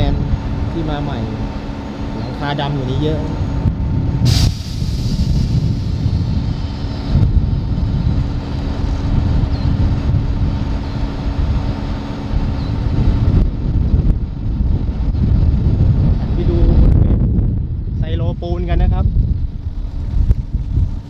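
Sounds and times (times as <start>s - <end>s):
constant hum: 0.0s - 21.0s
train rumbling: 0.0s - 21.0s.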